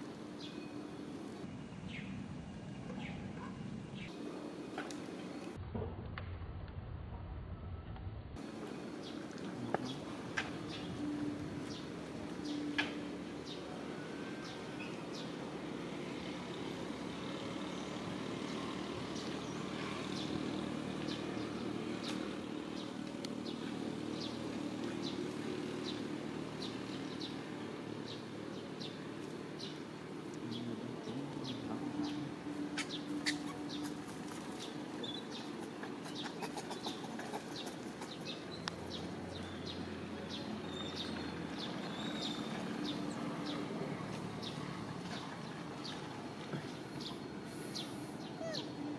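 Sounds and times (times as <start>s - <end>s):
birds chirping: 0.0s - 5.6s, 8.4s - 48.9s.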